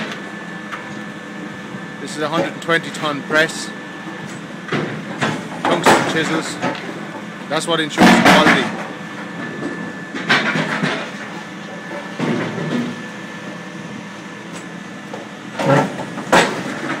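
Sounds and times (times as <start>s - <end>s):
hydraulic press machine noise: 0.0s - 17.0s.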